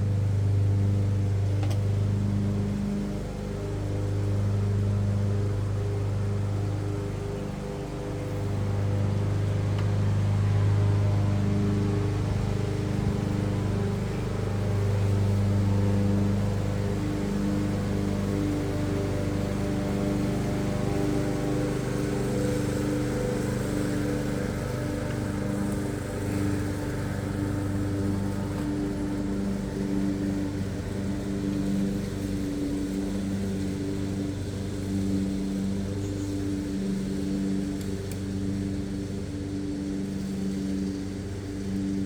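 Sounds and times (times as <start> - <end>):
steady humming drone: 0.0 - 42.0.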